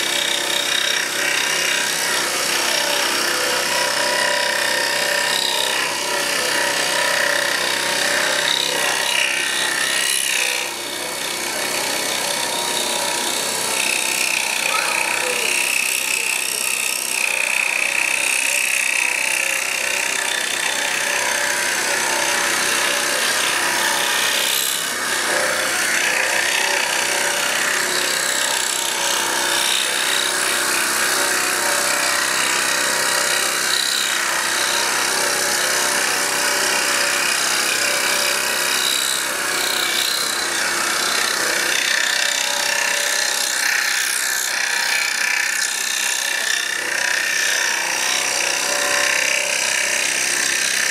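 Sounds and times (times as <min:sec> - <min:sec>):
scroll saw cutting wood: 0:00.0 - 0:50.9.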